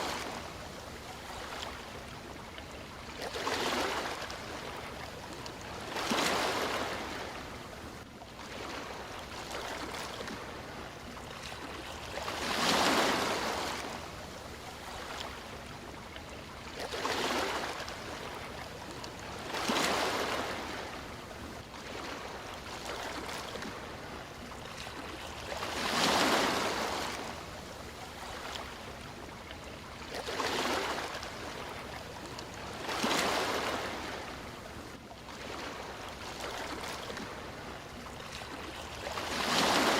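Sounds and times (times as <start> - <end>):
sea waves washing onto shore: 0.0 - 29.2, 29.9 - 39.9.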